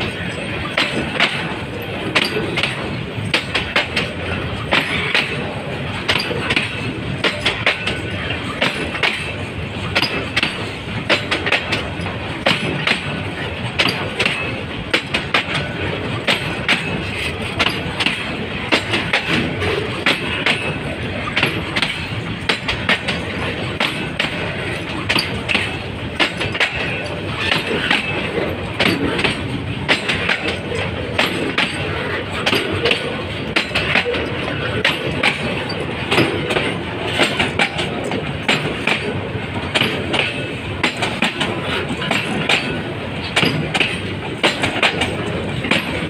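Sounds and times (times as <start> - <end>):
train wheels rumbling on rail: 0.0 - 46.0
wheels clanking over track: 0.0 - 46.0.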